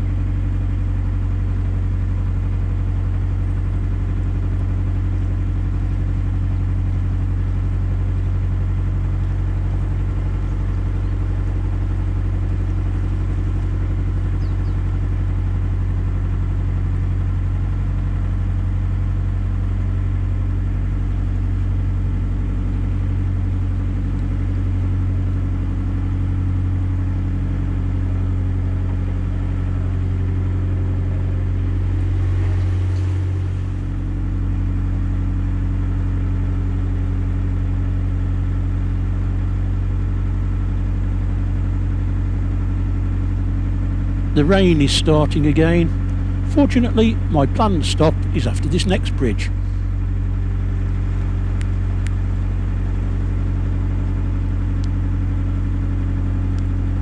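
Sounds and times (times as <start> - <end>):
diesel engine low throb: 0.0 - 57.0.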